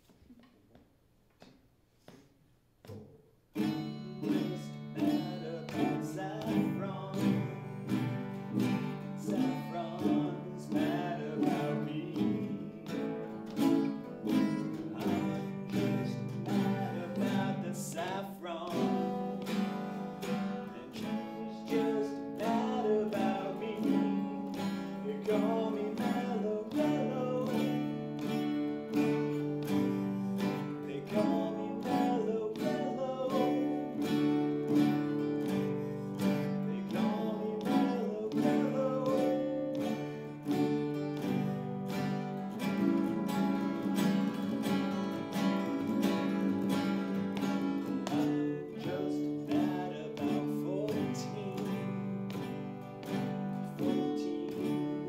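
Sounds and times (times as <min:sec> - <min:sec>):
acoustic guitars strumming: 0:02.8 - 0:55.0.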